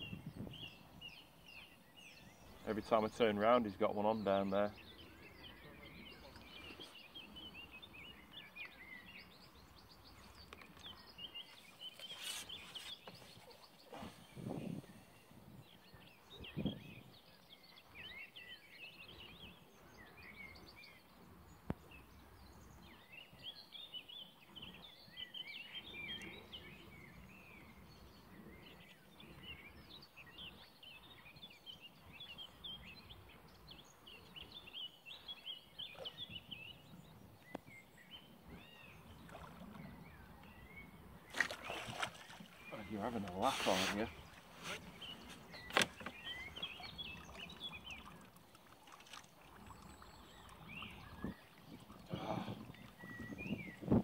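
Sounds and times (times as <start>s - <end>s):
outdoor background noise: 0.0s - 54.0s
small birds twittering: 0.0s - 54.0s.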